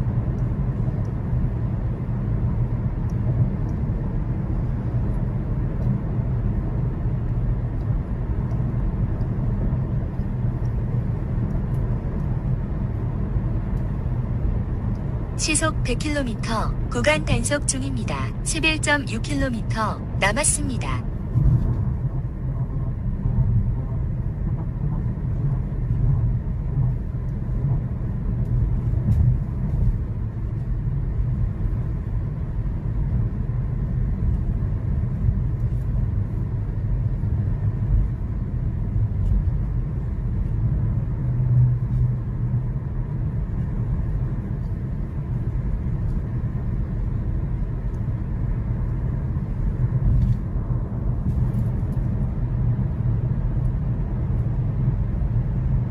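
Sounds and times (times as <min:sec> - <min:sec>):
road and engine noise in car cabin: 0:00.0 - 0:55.9.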